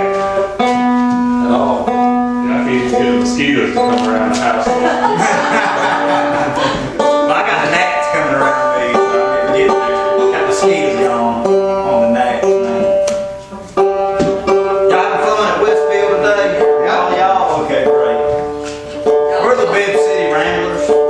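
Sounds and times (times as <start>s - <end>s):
string band with banjo and fiddle: 0.0s - 21.0s.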